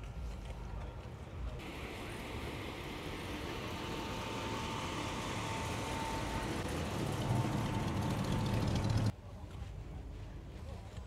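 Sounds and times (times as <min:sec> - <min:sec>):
engine rumbling: 0:00.0 - 0:10.4
steady outdoor hiss: 0:00.0 - 0:11.0.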